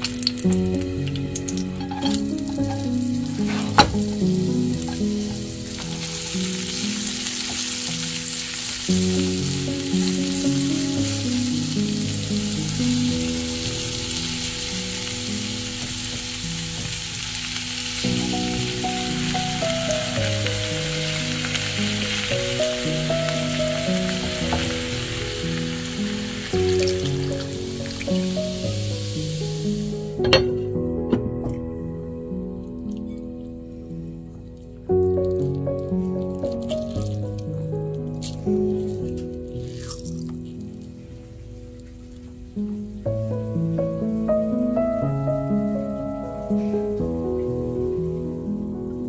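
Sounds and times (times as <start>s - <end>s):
onions and chicken sizzling in oil: 0.0s - 30.8s, 35.2s - 44.8s
soft background music: 0.0s - 49.0s.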